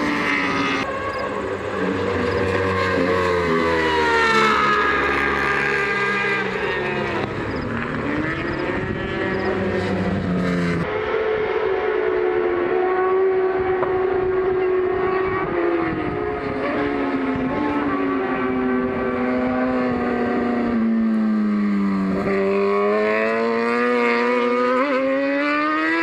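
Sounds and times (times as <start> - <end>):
superbike engines at high revs: 0.0 - 11.0, 12.4 - 26.0.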